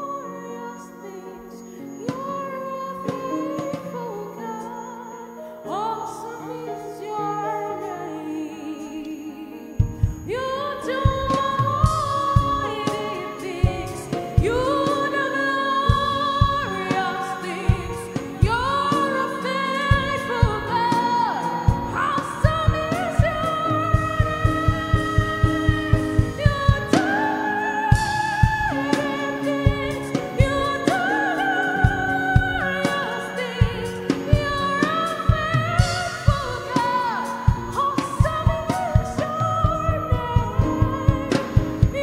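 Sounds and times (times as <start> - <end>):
person singing long notes: 0.0 - 42.0.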